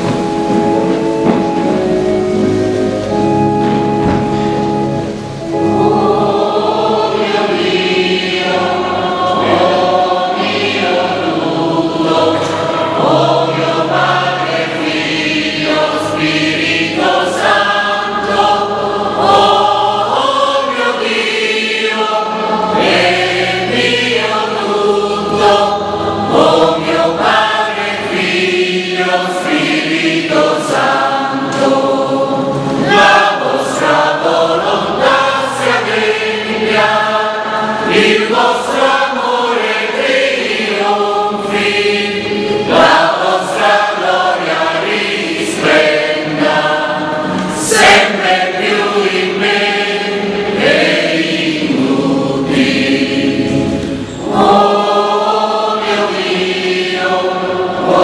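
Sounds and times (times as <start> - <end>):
choir singing a slow hymn: 0.0 - 58.0
keyboard chords: 0.0 - 58.0.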